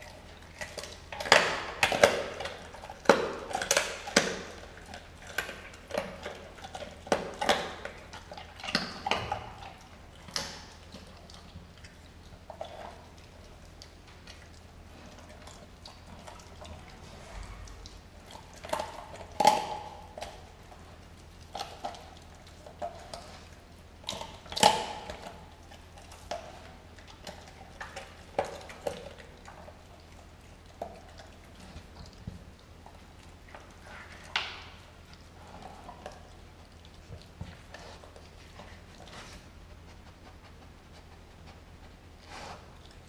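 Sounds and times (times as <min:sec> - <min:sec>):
dog chewing and tearing meat: 0:00.0 - 0:43.0.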